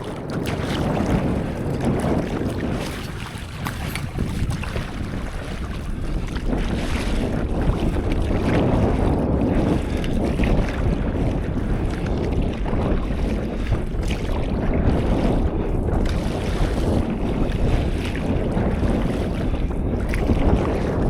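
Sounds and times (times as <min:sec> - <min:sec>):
sea water washing: 0:00.0 - 0:21.0
wind buffeting microphone: 0:00.0 - 0:21.0.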